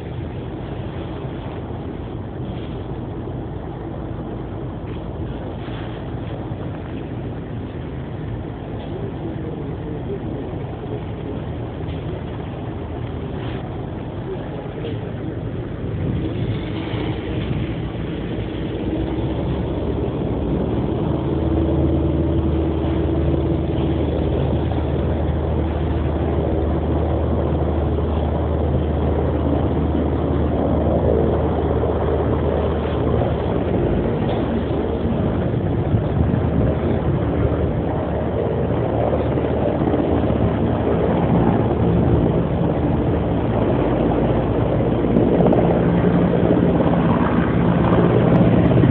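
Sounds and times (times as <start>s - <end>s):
helicopter engine and rotor drone: 6.1s - 48.9s.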